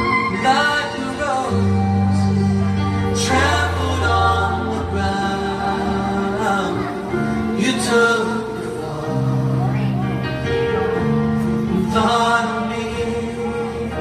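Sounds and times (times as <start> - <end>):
person singing gospel song: 0.0 - 10.0, 11.6 - 14.0.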